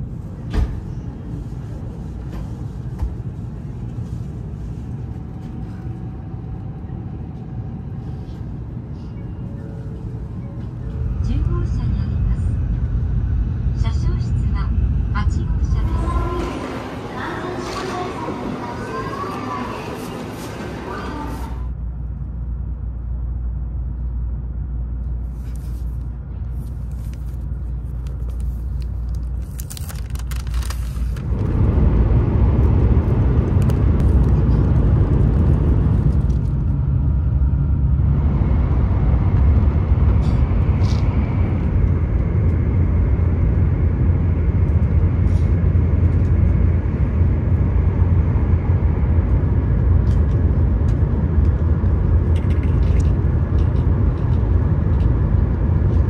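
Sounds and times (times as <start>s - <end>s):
train rumbling inside cabin: 0.0s - 56.0s.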